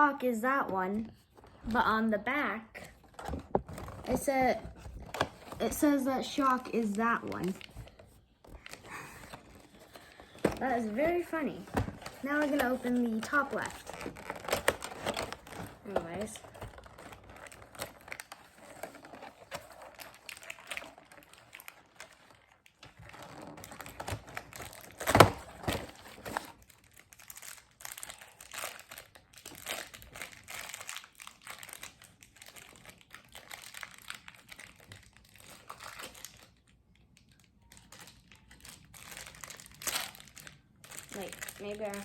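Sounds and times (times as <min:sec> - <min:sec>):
plastic and cardboard crinkling: 0:02.8 - 0:42.0.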